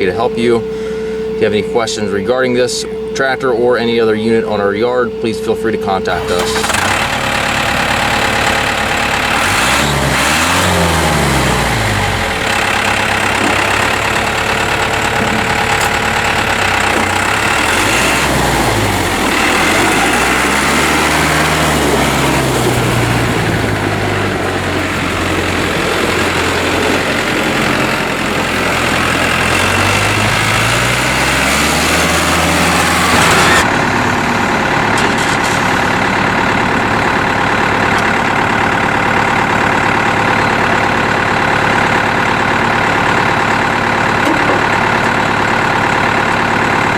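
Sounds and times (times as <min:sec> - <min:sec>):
tractor diesel engine revving: 0:00.0 - 0:46.9.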